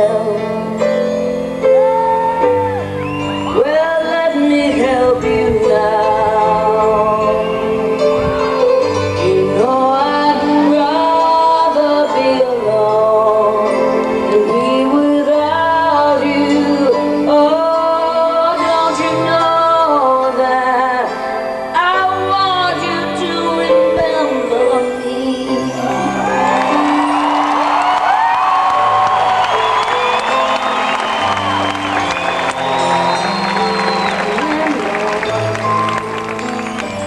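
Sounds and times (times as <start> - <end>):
live band playing slow ballad: 0.0 - 37.0.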